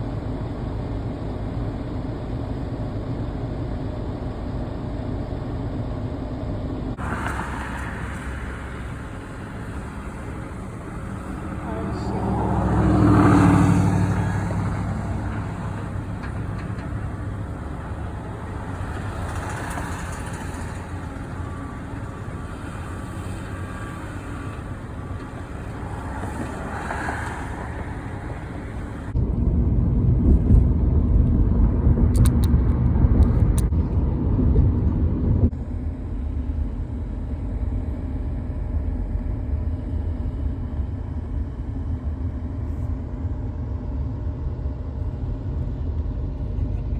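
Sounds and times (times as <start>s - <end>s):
vehicle engines rumbling: 0.0s - 46.9s.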